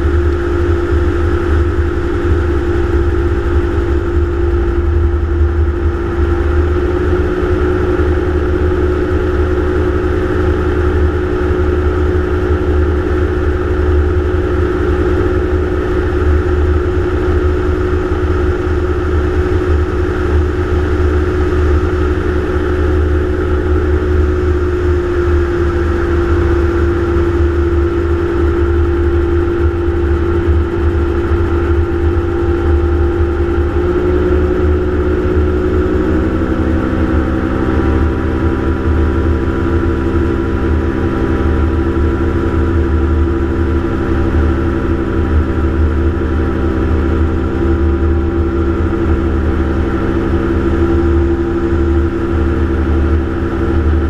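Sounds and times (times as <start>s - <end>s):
aircraft engine and propeller drone: 0.0s - 54.0s.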